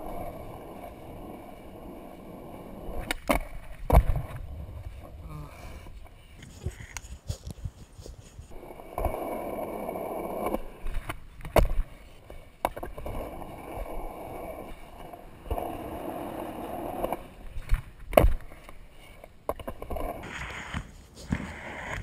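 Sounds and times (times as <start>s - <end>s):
skateboard wheels rolling on concrete: 0.0s - 22.0s.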